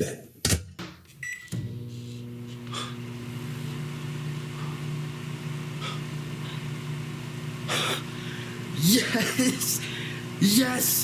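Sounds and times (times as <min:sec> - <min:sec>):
microwave oven humming: 0:01.1 - 0:11.0.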